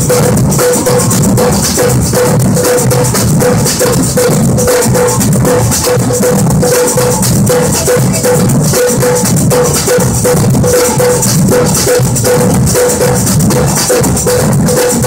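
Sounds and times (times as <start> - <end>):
deep bass drums: 0.0 - 15.0
snare drums rattling: 0.0 - 15.0.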